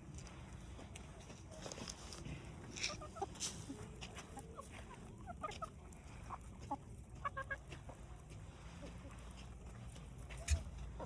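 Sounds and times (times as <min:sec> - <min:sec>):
hens clucking softly: 0:01.4 - 0:11.0.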